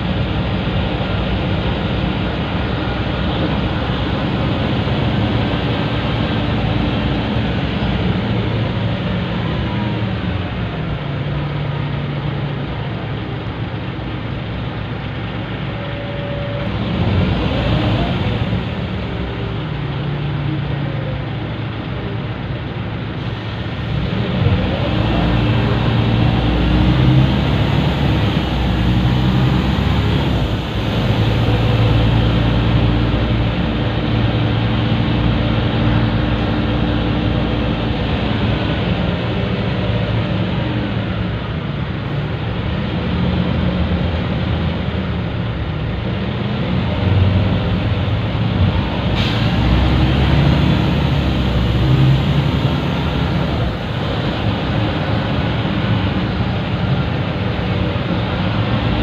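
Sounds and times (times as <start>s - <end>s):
bus diesel engine under load: 0.0s - 59.0s.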